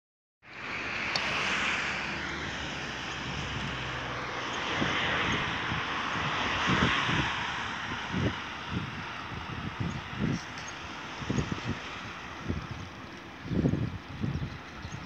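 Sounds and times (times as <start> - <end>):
rushing traffic: 0.4 - 15.0
wind buffeting microphone: 1.1 - 15.0.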